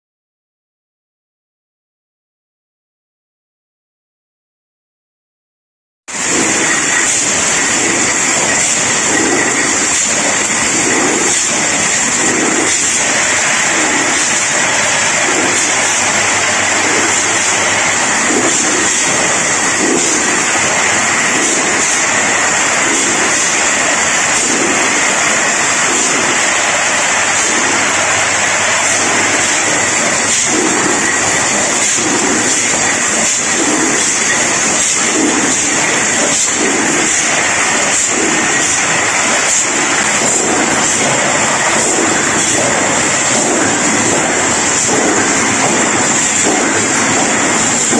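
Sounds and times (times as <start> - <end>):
machine pulsing: 6.1 - 47.9.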